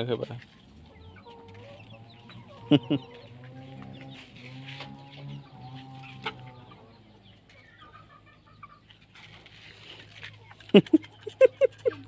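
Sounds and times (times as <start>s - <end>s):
chicken clucking: 0.0s - 12.0s.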